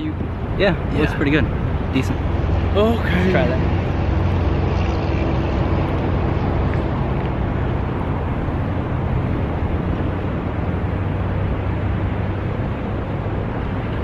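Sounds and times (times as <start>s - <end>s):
traffic noise: 0.0s - 14.0s
wind rumble on microphone: 0.0s - 14.0s.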